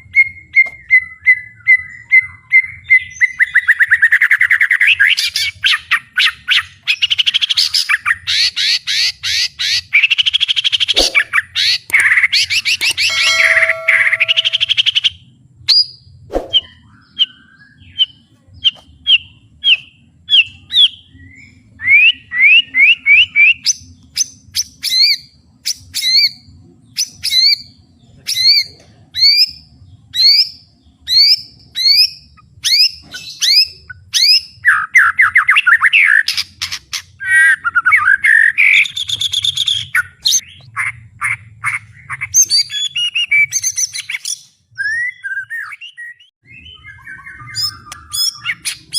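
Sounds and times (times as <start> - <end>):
bird singing whistled notes and trills: 0.0 - 48.9.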